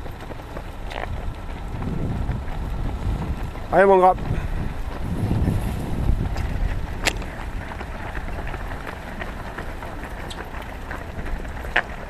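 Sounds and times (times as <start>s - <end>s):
runners' footsteps on asphalt: 0.0s - 12.0s.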